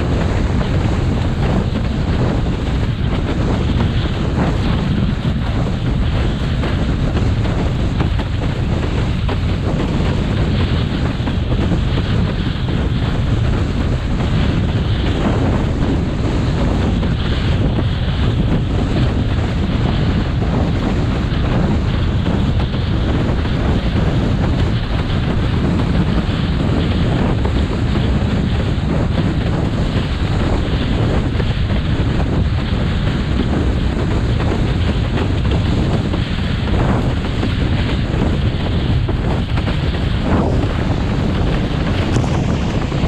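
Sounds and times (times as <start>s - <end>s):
water rushing and splashing: 0.0s - 43.0s
wind rumbling on microphone: 0.0s - 43.0s.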